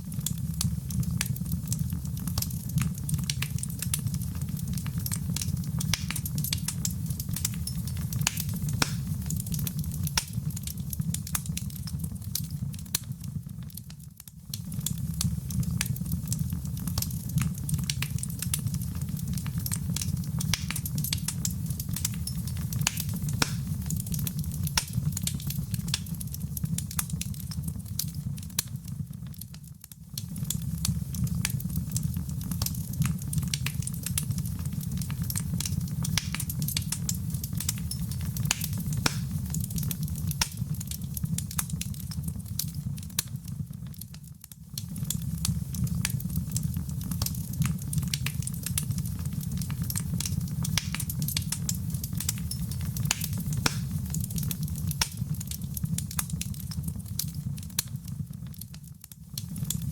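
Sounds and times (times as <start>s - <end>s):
wood fire burning: 0.0s - 59.9s.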